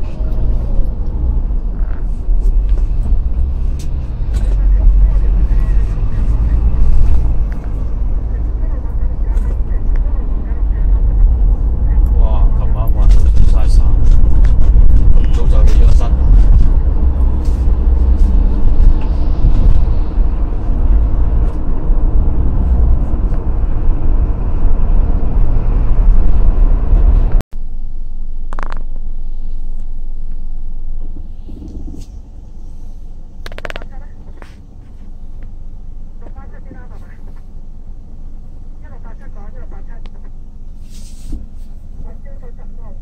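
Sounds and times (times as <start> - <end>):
vehicle road and engine rumble: 0.0 - 43.0.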